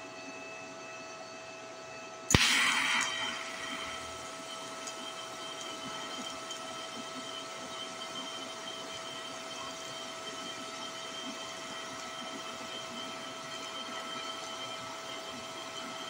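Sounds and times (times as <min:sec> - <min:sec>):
welding arc hissing with whine: 0:02.3 - 0:16.0.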